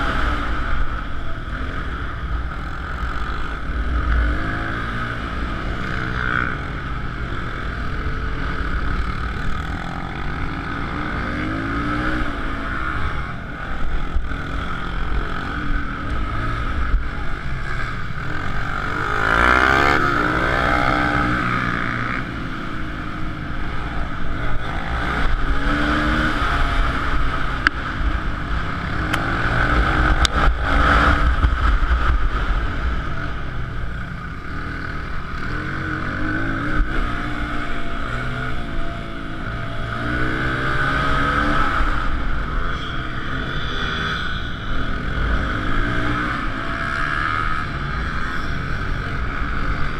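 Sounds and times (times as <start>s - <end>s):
small motorbike engines racing: 0.0s - 49.9s.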